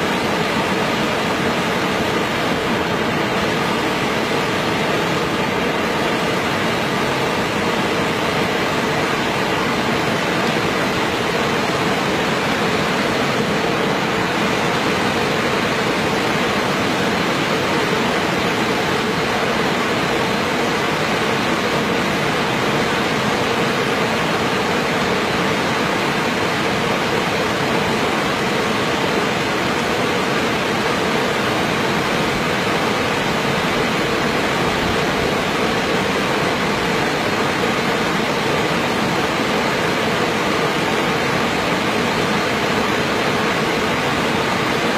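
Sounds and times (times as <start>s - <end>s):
water rushing over rocks: 0.0s - 44.9s.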